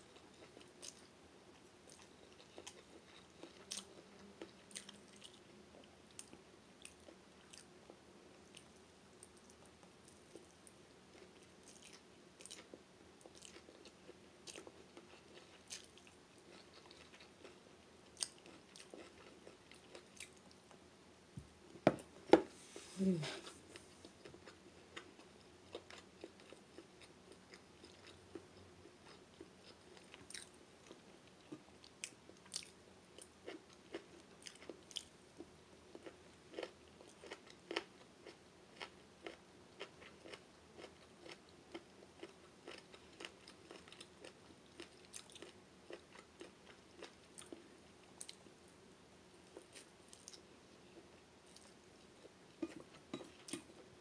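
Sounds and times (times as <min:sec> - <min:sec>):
person chewing noodles: 0:00.1 - 0:01.1, 0:01.8 - 0:07.7, 0:11.1 - 0:20.5, 0:23.0 - 0:47.6, 0:49.6 - 0:53.8.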